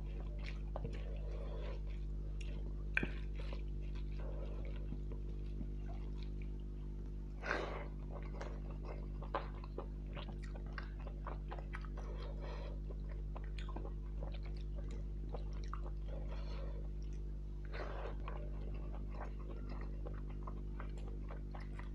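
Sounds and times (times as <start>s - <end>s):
chewing and wet mouth sounds: 0.0s - 21.9s
steady low hum: 0.0s - 21.9s.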